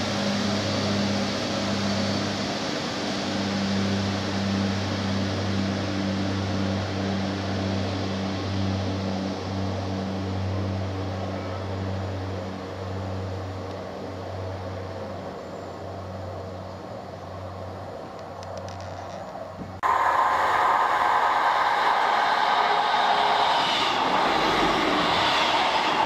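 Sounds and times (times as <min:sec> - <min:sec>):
diesel train approaching: 0:00.0 - 0:26.0
diesel train engine droning: 0:00.0 - 0:26.0
train wheel noise: 0:00.0 - 0:26.0.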